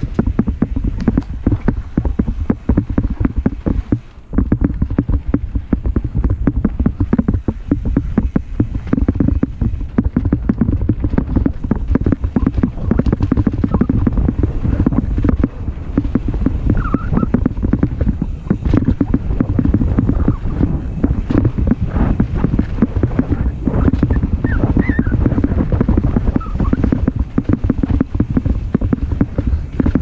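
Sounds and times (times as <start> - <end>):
bike rattling and clicking: 0.0 - 30.0
tyres rumbling on dirt: 0.0 - 30.0
wind buffeting microphone: 0.0 - 30.0.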